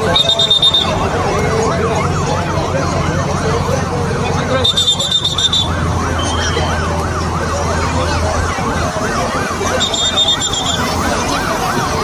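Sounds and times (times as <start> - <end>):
electronic siren warbling: 0.0 - 12.0
street crowd noise: 0.0 - 12.0.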